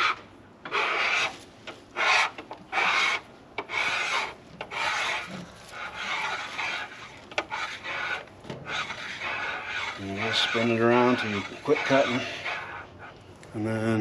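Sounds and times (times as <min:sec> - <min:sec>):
cutter scraping metal: 0:00.0 - 0:01.4, 0:02.0 - 0:12.9.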